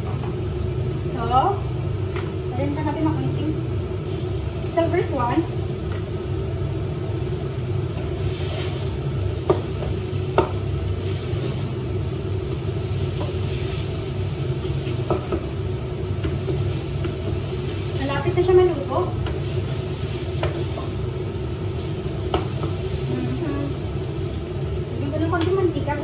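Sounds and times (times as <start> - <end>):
food sizzling in oil: 0.0 - 26.0
steady low hum: 0.0 - 26.0.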